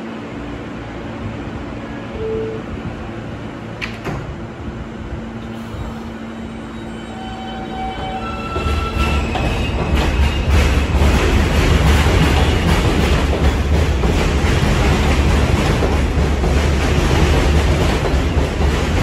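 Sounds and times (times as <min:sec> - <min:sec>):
train rumble: 0:00.0 - 0:19.0
train doors shutting: 0:01.9 - 0:19.0.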